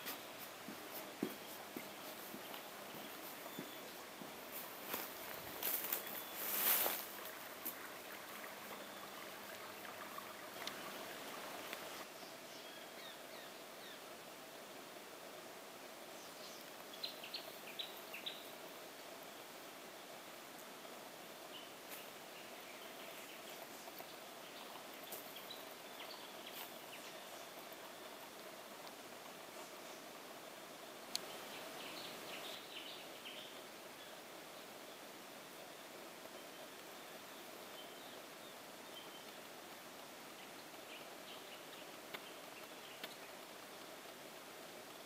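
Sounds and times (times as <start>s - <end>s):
distant birds chirping: 0.0s - 45.0s
steady hiss: 0.0s - 45.0s.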